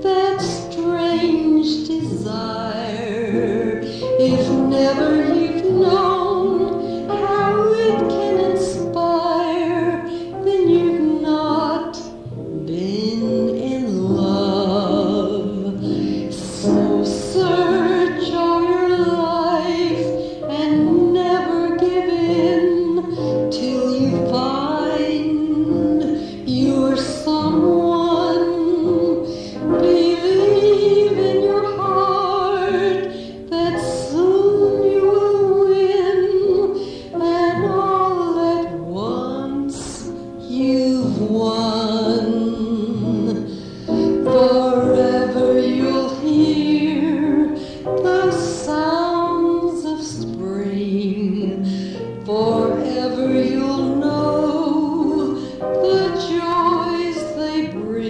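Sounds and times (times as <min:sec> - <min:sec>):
woman singing: 0:00.0 - 0:58.0.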